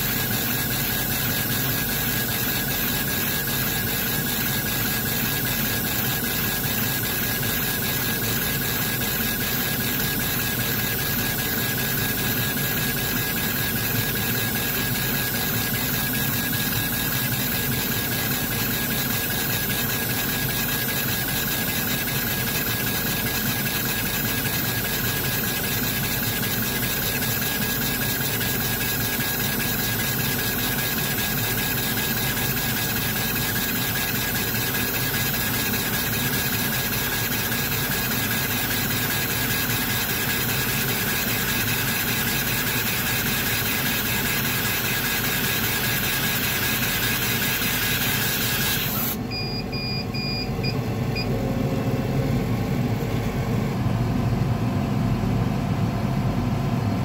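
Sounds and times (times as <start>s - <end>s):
laser engraver machine whirr: 0.0s - 54.6s.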